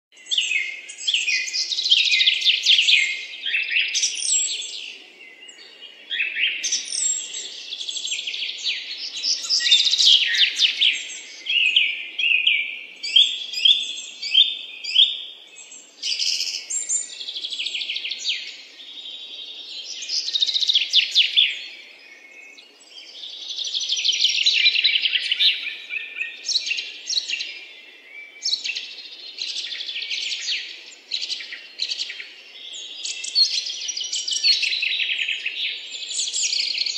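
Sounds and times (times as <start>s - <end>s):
songbirds chirping and trilling: 0.1s - 36.9s.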